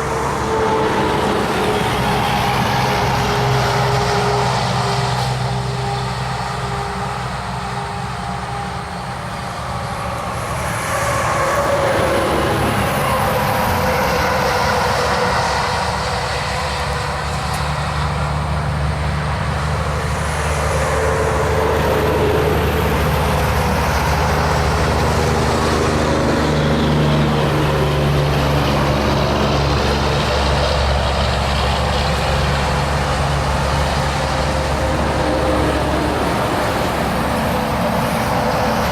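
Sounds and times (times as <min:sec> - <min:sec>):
diesel engine drone: 0:00.0 - 0:38.9.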